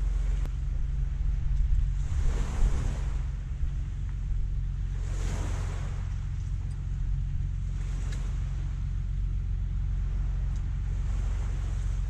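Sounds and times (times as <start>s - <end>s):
sea water washing: 0.0s - 12.0s
wind rumbling on microphone: 0.0s - 12.0s.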